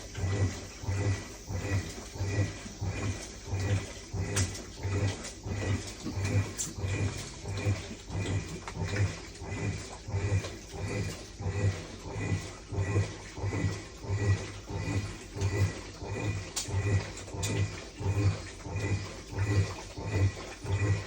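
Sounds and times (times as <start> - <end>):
washing machine agitating: 0.0 - 21.0.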